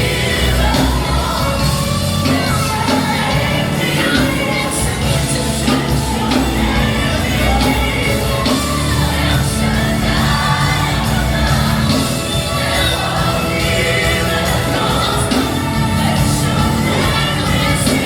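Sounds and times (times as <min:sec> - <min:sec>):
choir singing: 0:00.0 - 0:18.0
crowd singing and shouting: 0:00.0 - 0:18.0
gospel band playing: 0:00.0 - 0:18.0.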